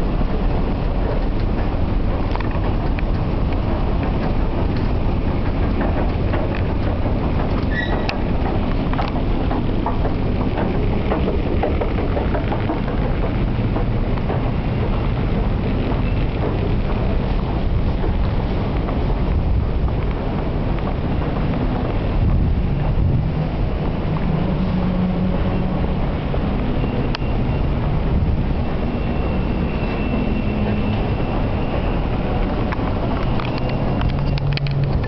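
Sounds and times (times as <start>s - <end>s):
train rattling and clicking: 0.0s - 35.0s
underground train rumbling: 0.0s - 35.0s.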